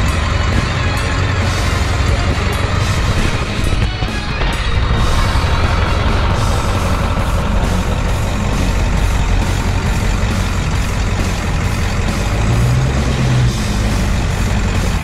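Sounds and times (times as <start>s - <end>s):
diesel engine running: 0.0s - 15.0s
rush of noise: 0.0s - 15.0s.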